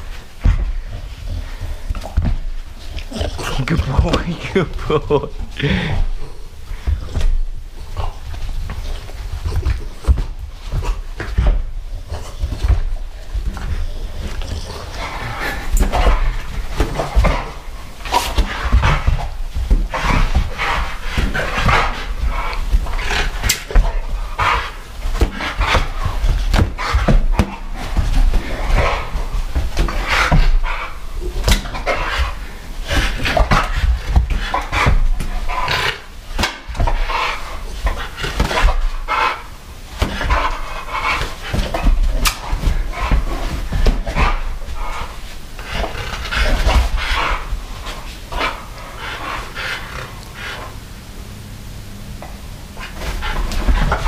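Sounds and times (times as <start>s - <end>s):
dogs snuffling: 0.0s - 54.0s
knocks and thumps of dogs playing: 0.0s - 54.0s.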